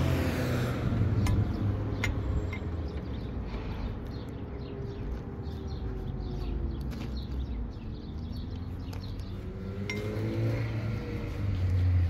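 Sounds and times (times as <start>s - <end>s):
birds chirping: 0.0s - 12.0s
vehicle engine humming: 0.0s - 12.0s.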